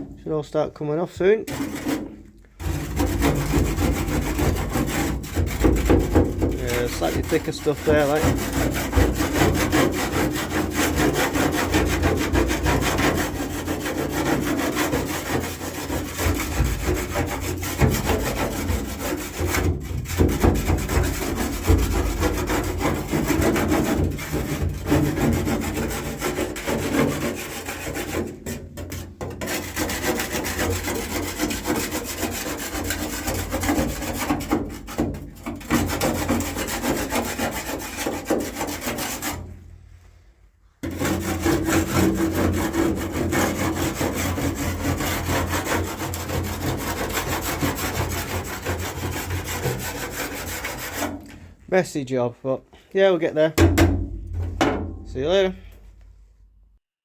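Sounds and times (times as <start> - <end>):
scraping on steel floor: 1.5 - 40.1, 40.8 - 51.5.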